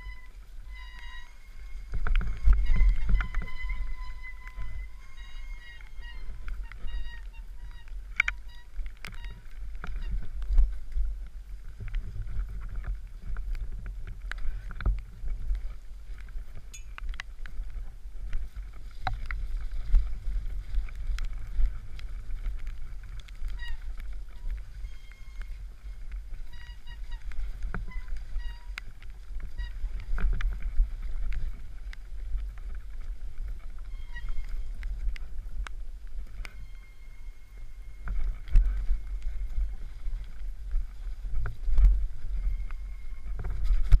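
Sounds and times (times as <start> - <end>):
mountain bike rattling on trail: 0.0 - 44.0
wind rumble on microphone: 0.0 - 44.0.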